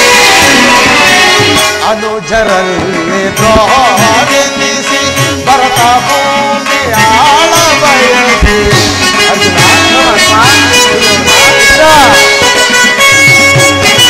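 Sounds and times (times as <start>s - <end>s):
drums playing: 0.0s - 14.0s
harmonium: 0.0s - 14.0s.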